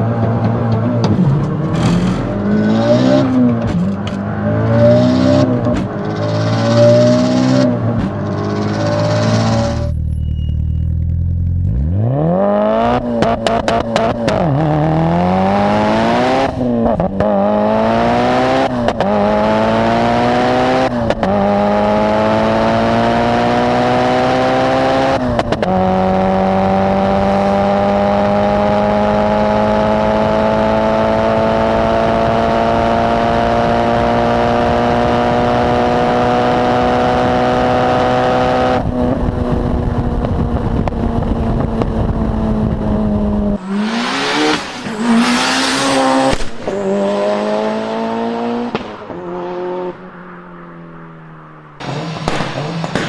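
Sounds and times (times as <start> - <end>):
car engine accelerating through gears: 0.0 - 53.0.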